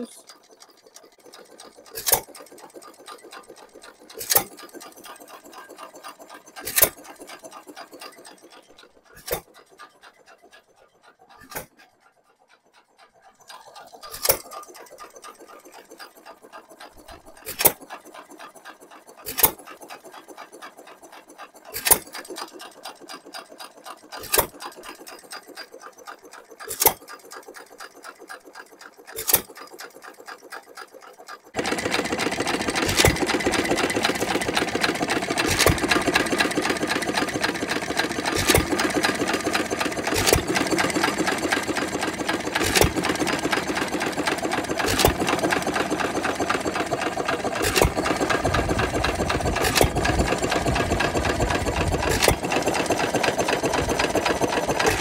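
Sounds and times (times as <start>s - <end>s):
fast mechanical clicking: 0.0s - 55.0s
engine firing with sharp pops: 0.6s - 8.6s, 9.2s - 9.6s, 11.4s - 11.8s, 13.3s - 23.5s, 24.1s - 55.0s.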